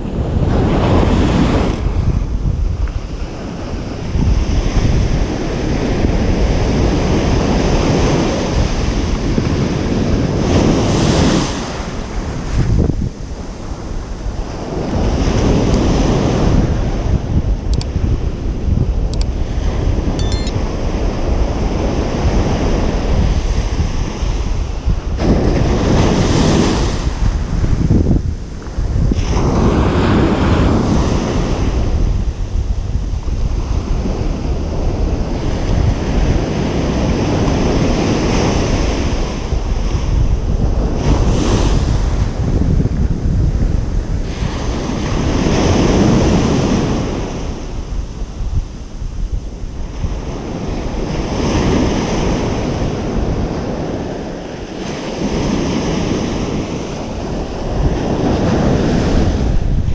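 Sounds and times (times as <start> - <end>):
ocean waves breaking on beach: 0.0 - 59.9
wind buffeting microphone: 0.0 - 59.9.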